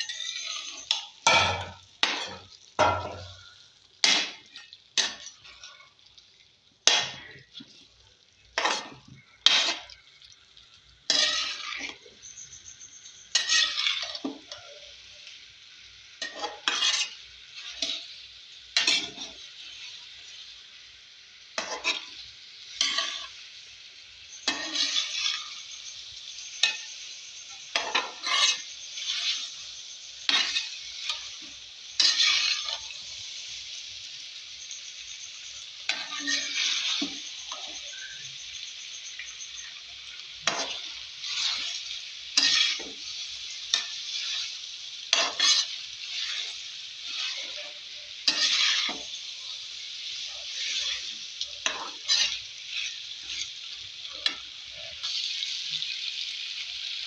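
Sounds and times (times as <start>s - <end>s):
metal spatula scraping pan: 0.0s - 5.9s, 6.8s - 7.8s, 8.6s - 10.3s, 11.1s - 15.1s, 16.2s - 18.2s, 18.8s - 20.0s, 21.6s - 23.4s, 24.3s - 33.4s, 35.2s - 55.5s
food sizzling in pan: 0.0s - 57.0s.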